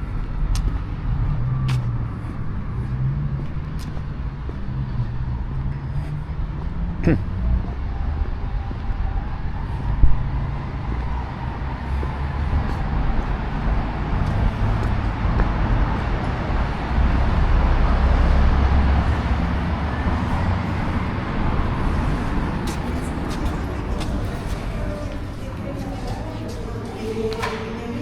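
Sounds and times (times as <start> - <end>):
low rumble of passing vehicles: 0.0 - 28.0.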